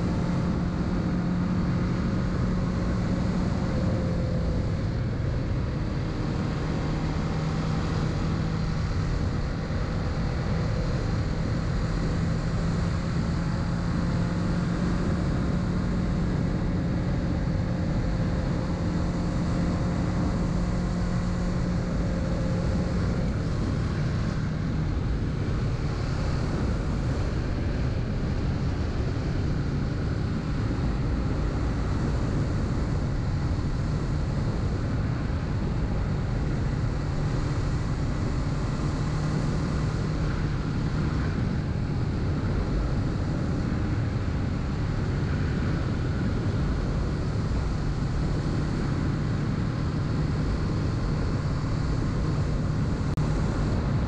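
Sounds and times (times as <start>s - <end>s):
wind noise on microphone: 0.0s - 54.0s.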